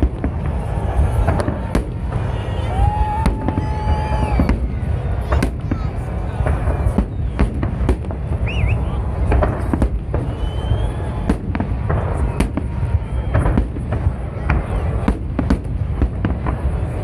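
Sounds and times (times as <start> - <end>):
fireworks whistles: 0.0 - 16.6.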